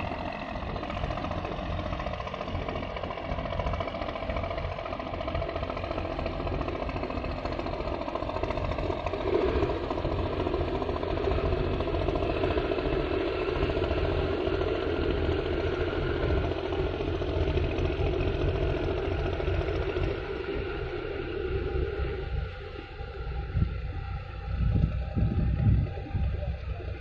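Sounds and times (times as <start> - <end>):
boat engine chugging: 0.0 - 27.0.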